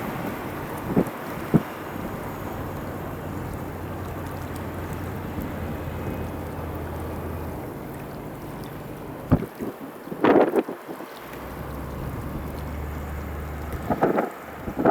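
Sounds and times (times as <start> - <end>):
excavator diesel engine running: 0.0 - 9.4, 11.2 - 14.9.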